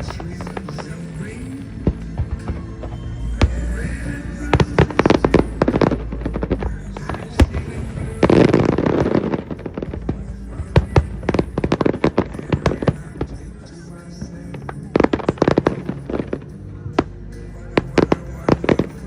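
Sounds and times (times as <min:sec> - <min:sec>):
background music: 0:00.0 - 0:19.0
fireworks bangs and crackles: 0:00.0 - 0:19.0.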